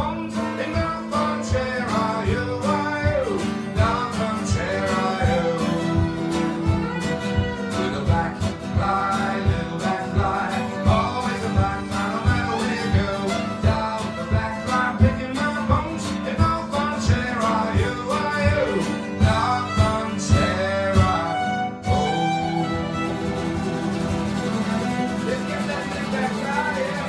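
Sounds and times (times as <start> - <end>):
fiddle melody: 0.0 - 27.0
strummed guitar: 0.0 - 27.0.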